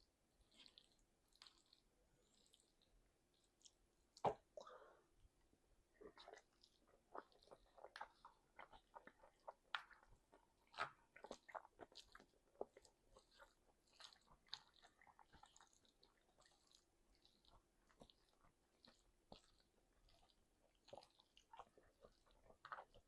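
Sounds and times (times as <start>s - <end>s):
person chewing food: 0.3s - 5.1s, 5.9s - 23.0s.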